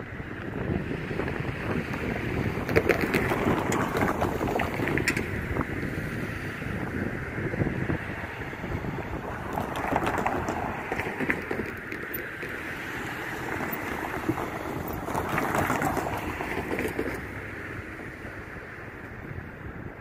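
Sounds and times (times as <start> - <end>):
wind buffeting microphone: 0.0 - 20.0
tyres clattering over crossing: 1.1 - 19.6.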